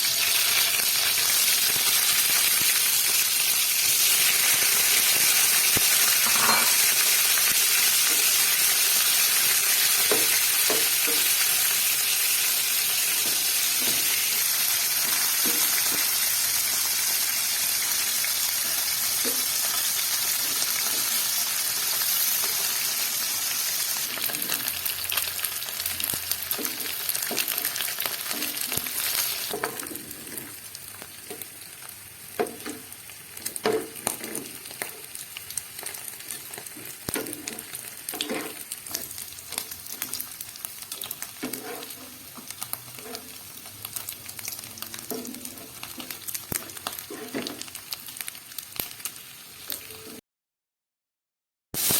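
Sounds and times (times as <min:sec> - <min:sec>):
food sizzling in hot oil: 0:00.0 - 0:50.2.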